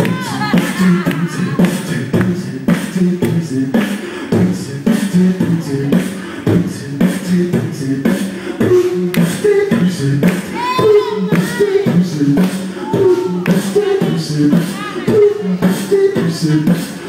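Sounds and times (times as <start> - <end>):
beatboxing into microphone: 0.0 - 17.0.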